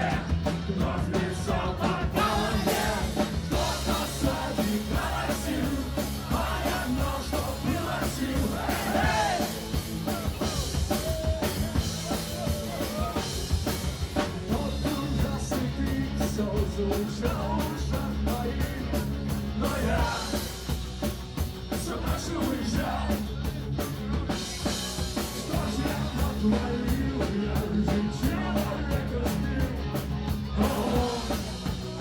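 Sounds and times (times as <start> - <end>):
punk rock band playing: 0.0 - 32.0.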